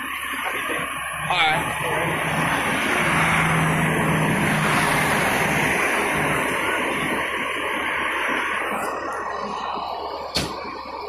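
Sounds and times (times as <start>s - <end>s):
fire engine running: 0.0s - 11.0s.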